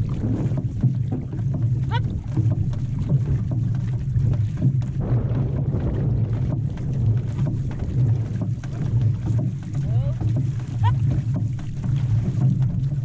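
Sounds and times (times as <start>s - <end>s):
low wind rumble on microphone: 0.0s - 13.0s
water rushing along canoe hull: 0.0s - 13.0s.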